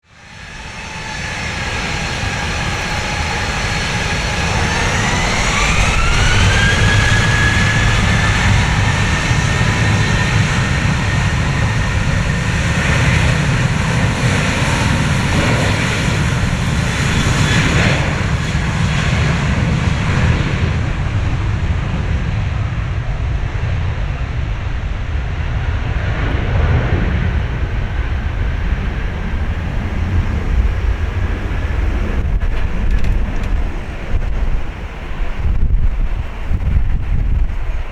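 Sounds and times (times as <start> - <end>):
jet engines spooling up: 0.0 - 37.9.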